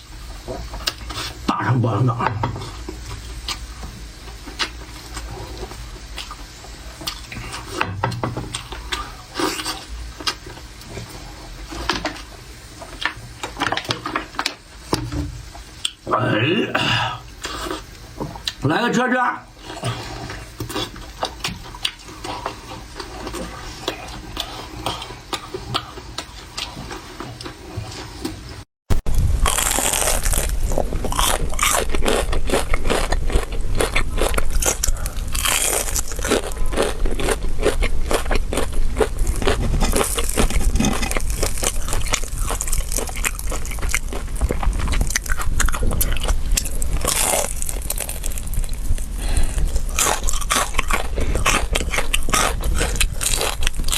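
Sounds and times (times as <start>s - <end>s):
chewing crunchy food: 2.6s - 14.9s, 17.3s - 18.6s, 19.6s - 28.5s, 29.4s - 53.9s.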